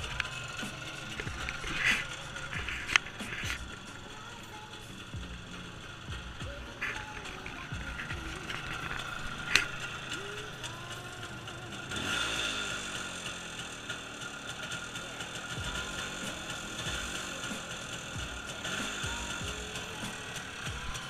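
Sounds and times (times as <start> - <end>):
two-stroke engine idling: 0.0 - 21.0.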